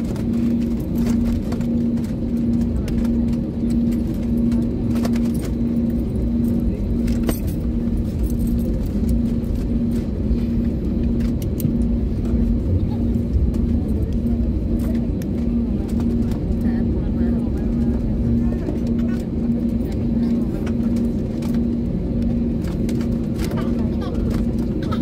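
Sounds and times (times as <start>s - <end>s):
aircraft cabin low rumble: 0.0s - 25.0s
pulsing low hum: 0.0s - 25.0s.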